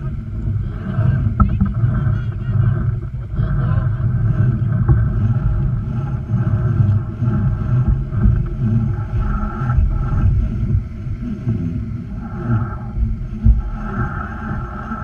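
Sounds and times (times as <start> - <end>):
water noise: 0.0 - 15.0
wind buffeting microphone: 0.0 - 15.0.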